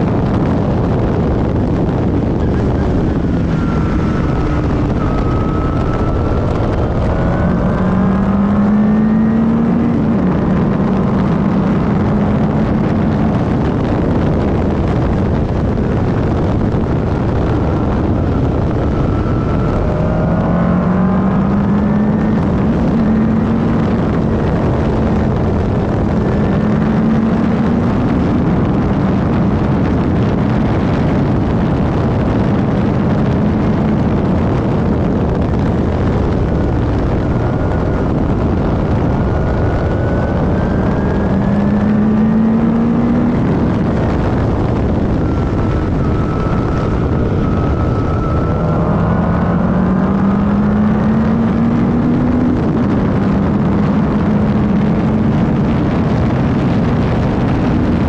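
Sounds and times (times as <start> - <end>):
racing car engine: 0.0 - 58.0
wind and road noise: 0.0 - 58.0.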